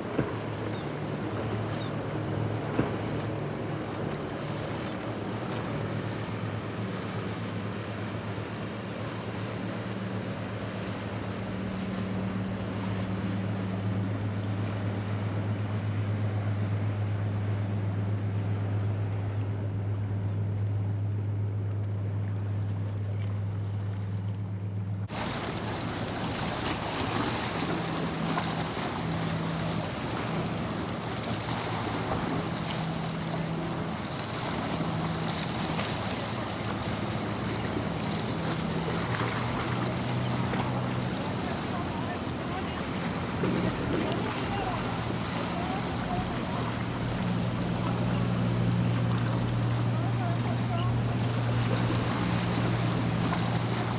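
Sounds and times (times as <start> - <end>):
surf rushing: 0.0 - 17.7, 25.1 - 53.9
boat engine droning: 0.0 - 53.9
waves washing: 0.0 - 53.9
wind: 0.0 - 53.9.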